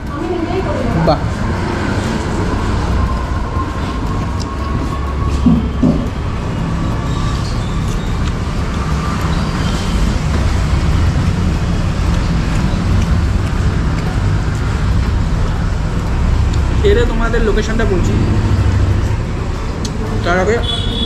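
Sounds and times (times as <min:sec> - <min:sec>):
road traffic noise: 0:00.0 - 0:21.0
vehicle engine low rumble: 0:00.0 - 0:21.0.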